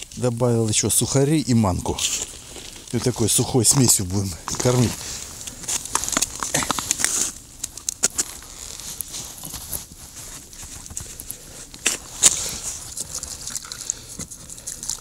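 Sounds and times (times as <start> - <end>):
hand scooping crumbly mix: 0.0 - 15.0
groundbait rustling in plastic bucket: 1.6 - 15.0.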